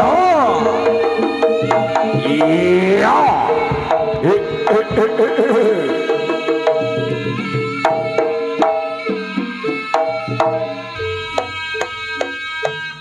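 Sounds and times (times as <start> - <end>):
hand drum strokes: 0.0 - 13.0
ringing metal percussion: 0.0 - 13.0.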